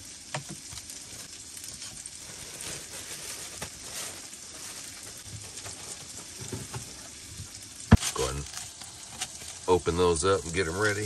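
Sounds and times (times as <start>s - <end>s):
patties sizzling in oil: 0.0s - 11.0s
plastic bag rustling: 0.6s - 11.0s.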